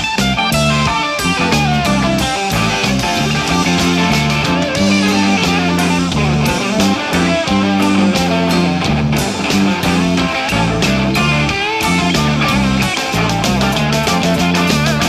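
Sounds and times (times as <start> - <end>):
blues-rock band playing: 0.0 - 15.0
drum hits: 0.0 - 15.0.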